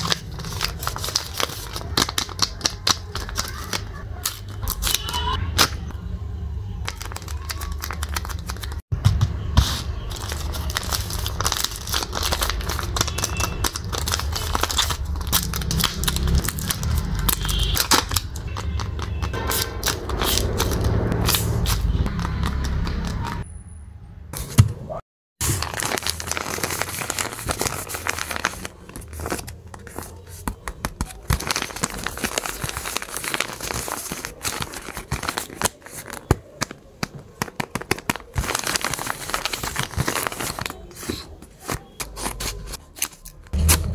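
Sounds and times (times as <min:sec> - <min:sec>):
paper bags crinkling and rustling: 0:00.0 - 0:05.3, 0:06.8 - 0:08.9, 0:10.0 - 0:23.4, 0:25.4 - 0:43.6.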